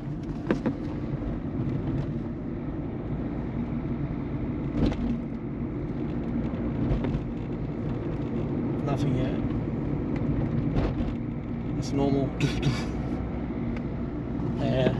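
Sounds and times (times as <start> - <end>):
car engine and road rumble: 0.0 - 14.9.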